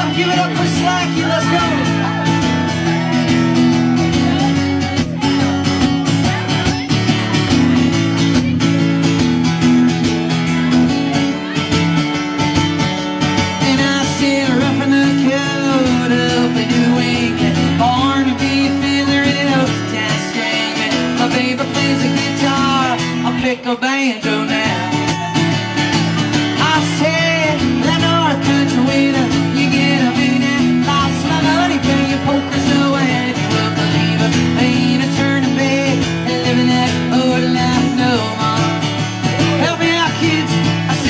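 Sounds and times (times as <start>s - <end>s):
acoustic guitar strumming: 0.0s - 41.0s
man singing: 0.0s - 41.0s.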